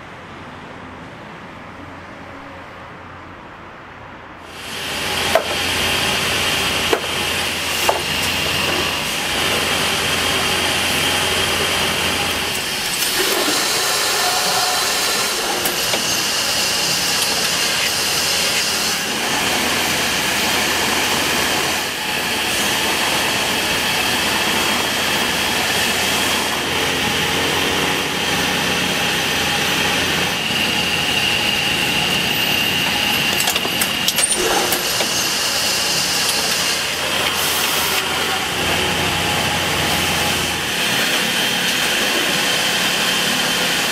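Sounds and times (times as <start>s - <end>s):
textile machinery running: 4.5s - 43.9s.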